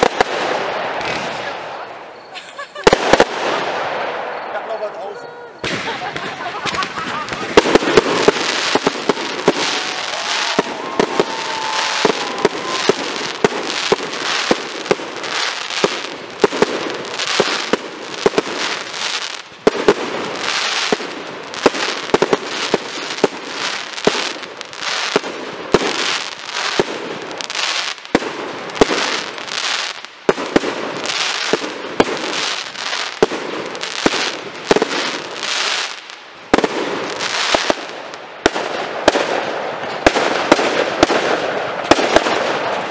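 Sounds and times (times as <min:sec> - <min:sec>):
fireworks bursting with sharp bangs: 0:00.0 - 0:42.9
fireworks crackle: 0:00.0 - 0:42.9.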